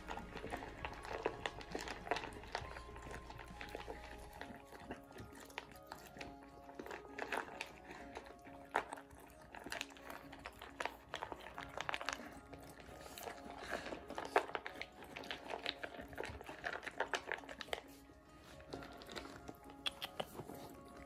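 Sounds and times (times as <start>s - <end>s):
puppies crunching dry kibble: 0.0s - 21.0s.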